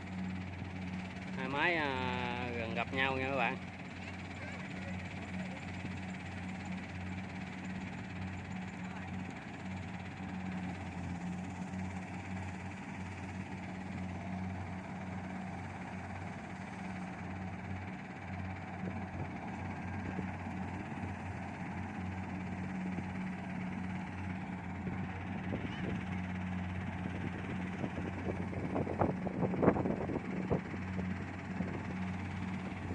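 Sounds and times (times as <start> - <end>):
combine harvester engine droning: 0.0 - 32.9.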